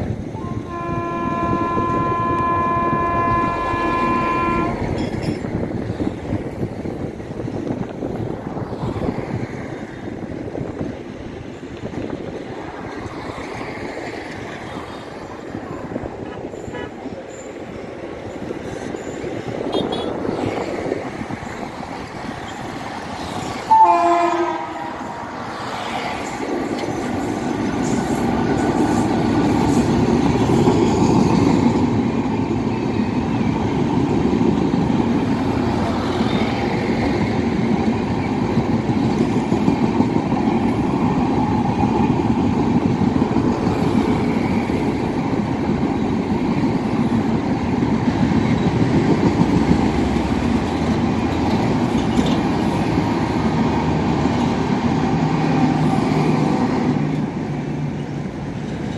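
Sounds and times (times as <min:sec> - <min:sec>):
train passing through station: 0:00.0 - 0:58.9
train wheels on rails: 0:00.0 - 0:58.9.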